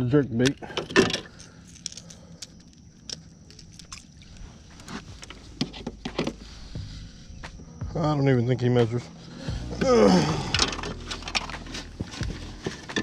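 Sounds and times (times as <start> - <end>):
low steady rumble: 1.3 - 13.0.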